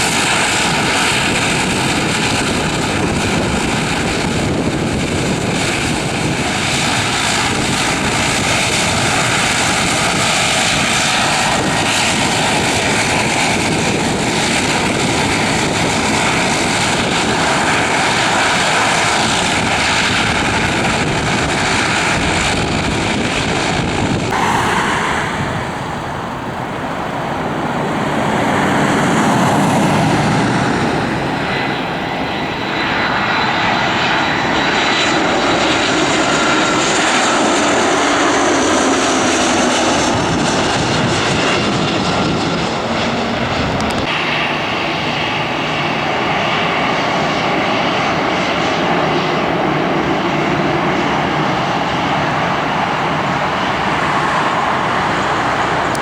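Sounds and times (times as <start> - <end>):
airliner engines roaring: 0.0 - 56.0.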